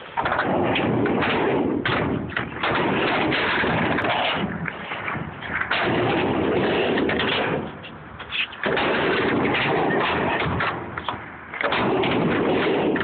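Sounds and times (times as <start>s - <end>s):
skateboard wheels rolling on metal: 0.0s - 13.0s.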